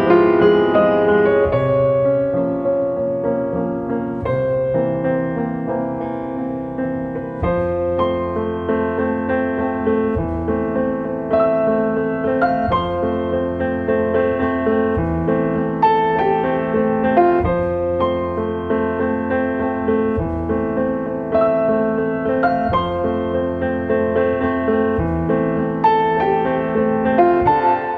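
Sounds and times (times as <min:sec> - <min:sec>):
piano music: 0:00.0 - 0:27.9.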